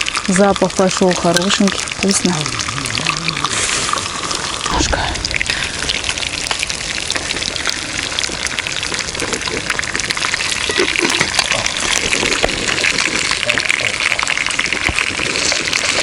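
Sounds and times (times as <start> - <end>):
fish frying in oil: 0.0 - 16.0
oil popping and crackling: 0.0 - 16.0.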